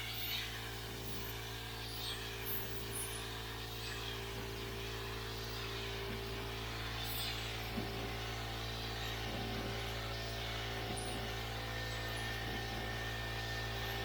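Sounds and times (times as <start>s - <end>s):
air compressor humming: 0.0s - 14.0s.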